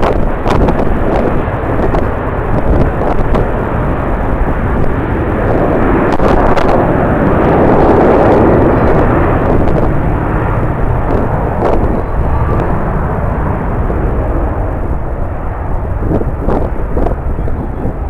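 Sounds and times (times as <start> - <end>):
jet airliner passing: 0.0 - 18.0
wind rumbling on microphone: 0.0 - 18.0.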